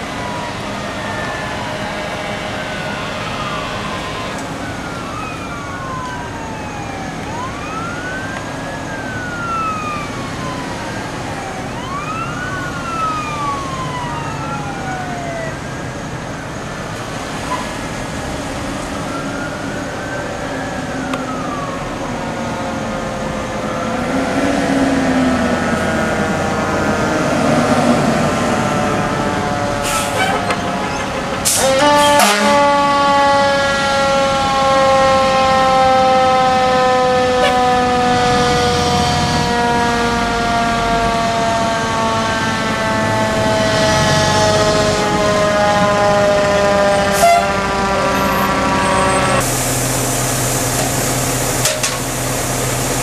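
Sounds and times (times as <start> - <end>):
emergency sirens wailing: 0.0 - 53.0
steady siren tones: 0.0 - 53.0.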